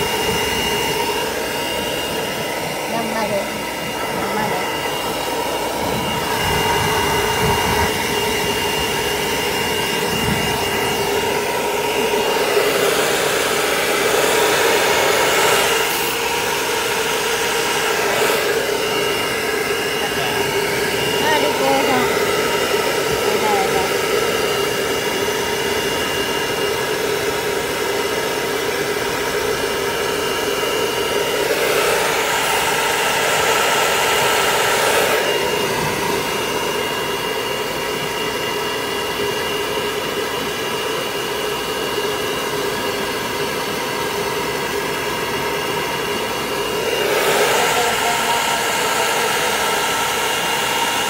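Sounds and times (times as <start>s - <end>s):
hair dryer running: 0.0s - 51.0s.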